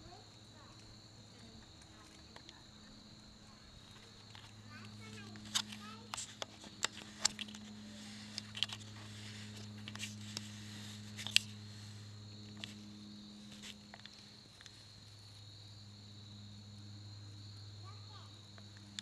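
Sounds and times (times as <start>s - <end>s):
faint high whine: 0.0s - 19.0s
low electrical hum: 0.0s - 19.0s.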